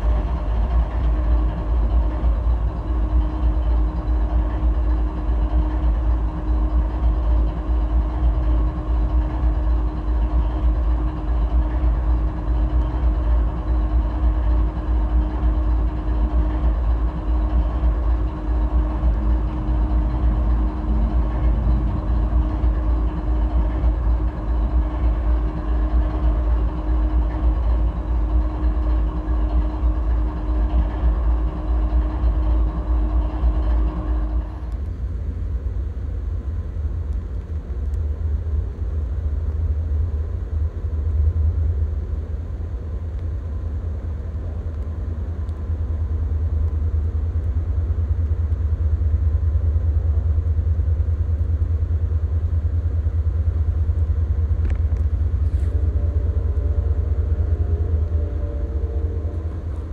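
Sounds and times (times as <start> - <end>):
freight train rumbling: 0.0 - 59.9
steady hum: 0.0 - 59.9.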